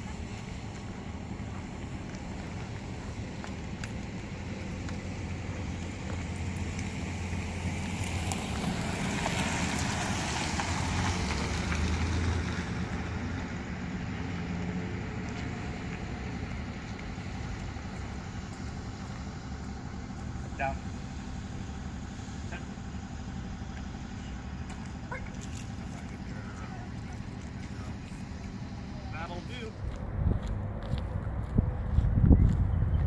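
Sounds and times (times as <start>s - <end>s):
background traffic: 0.0s - 33.0s
vehicle driving past: 0.0s - 33.0s.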